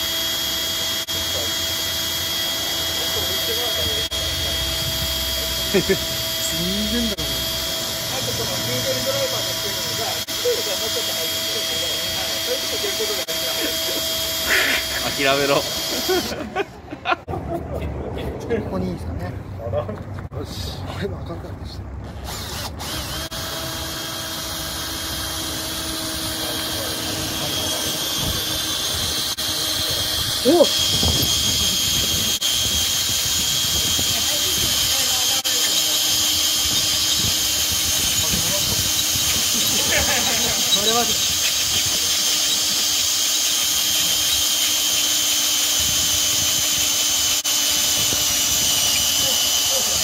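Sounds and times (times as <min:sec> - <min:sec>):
drill bit grinding into steel: 0:00.0 - 0:16.6, 0:22.2 - 0:50.0
cordless drill motor whine: 0:00.0 - 0:16.7, 0:22.2 - 0:50.0.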